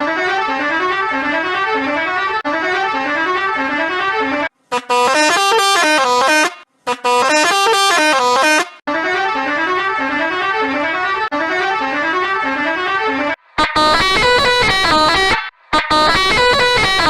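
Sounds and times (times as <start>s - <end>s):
musical bus horn: 0.0s - 17.0s.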